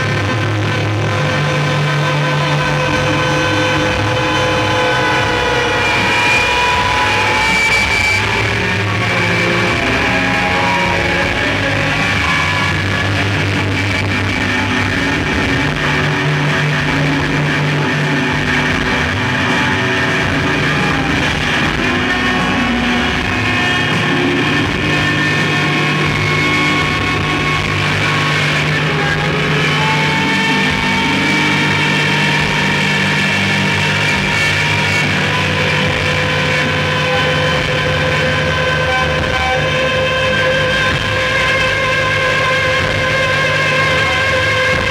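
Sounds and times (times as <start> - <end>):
electric guitars droning: 0.0 - 44.9.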